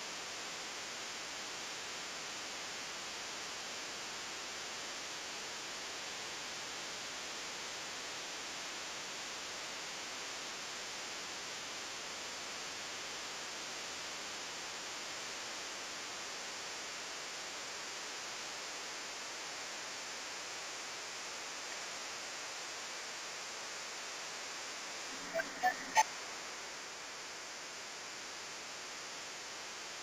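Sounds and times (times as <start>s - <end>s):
steady recording hiss: 0.0s - 30.0s.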